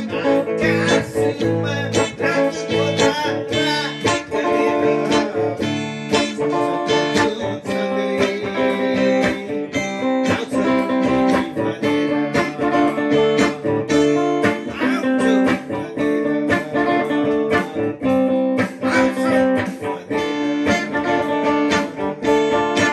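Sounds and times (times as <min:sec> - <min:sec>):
solo guitar picked and strummed: 0:00.0 - 0:22.9.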